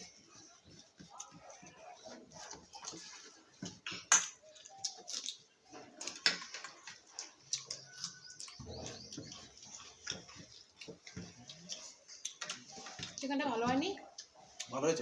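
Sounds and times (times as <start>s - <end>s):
chewing and mouth smacks: 1.0s - 13.3s, 14.0s - 14.8s.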